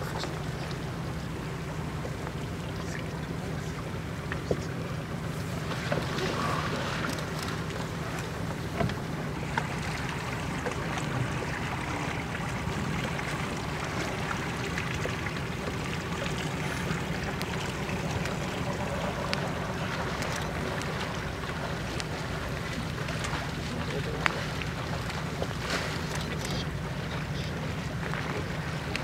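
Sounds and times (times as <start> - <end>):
steady low hum: 0.0 - 29.0
water lapping against rocks: 0.0 - 29.0.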